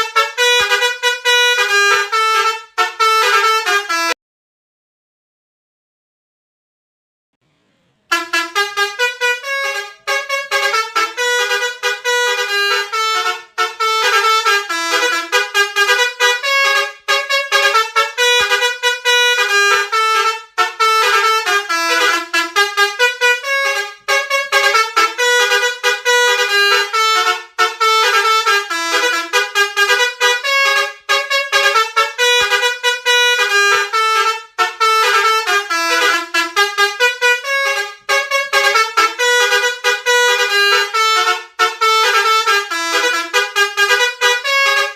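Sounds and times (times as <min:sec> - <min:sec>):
multi-tone bus horn tune: 0:00.0 - 0:04.2, 0:08.0 - 0:44.9.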